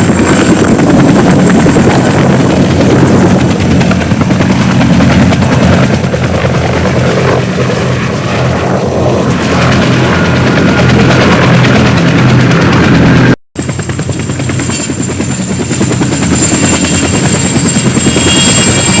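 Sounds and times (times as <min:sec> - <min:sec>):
helicopter rotor blades chopping: 0:00.0 - 0:19.0.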